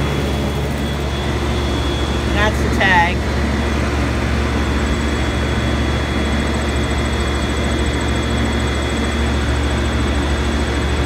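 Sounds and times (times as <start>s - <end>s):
air conditioner fan rushing: 0.0s - 11.0s.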